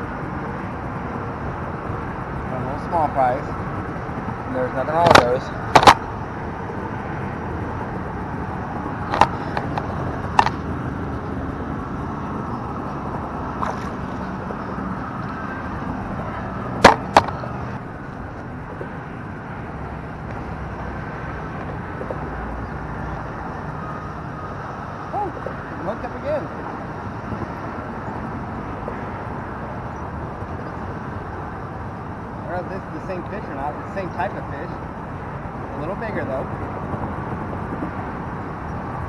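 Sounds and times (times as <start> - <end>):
distant freeway traffic hum: 0.0 - 39.0.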